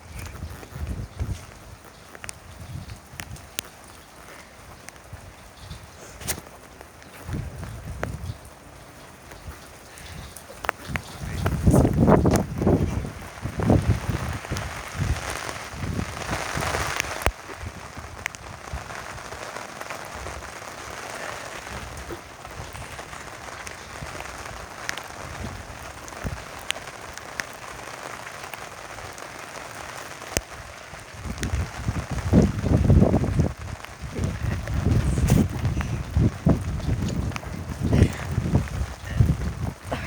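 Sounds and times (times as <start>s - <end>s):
wind buffeting microphone: 0.0s - 19.4s, 20.0s - 27.5s, 30.4s - 40.0s
heavy rain hissing: 0.0s - 40.0s
raindrops ticking: 0.0s - 40.0s.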